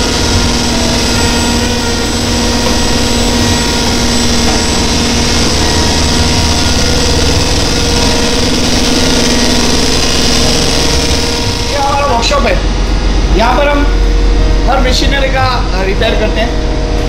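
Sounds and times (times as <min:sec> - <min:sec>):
engine room machinery din: 0:00.0 - 0:17.0.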